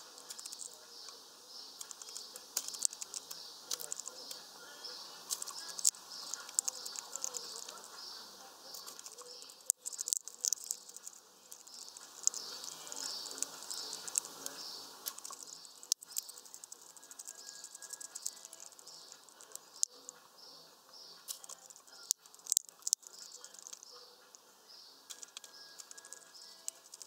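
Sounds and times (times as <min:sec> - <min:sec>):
sharp ticks: 0:00.0 - 0:04.5, 0:05.2 - 0:08.1, 0:08.7 - 0:20.2, 0:21.2 - 0:24.4, 0:25.0 - 0:27.0
high chirps: 0:00.0 - 0:27.0.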